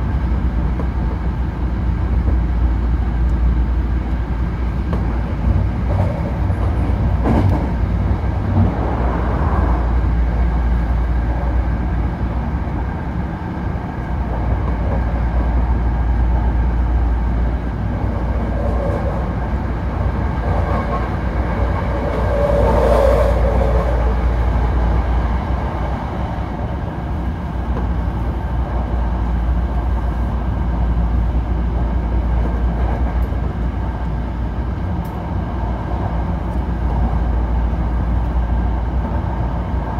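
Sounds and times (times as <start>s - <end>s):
passing train: 0.0s - 39.9s
train wheels rumbling on rail: 0.0s - 39.9s.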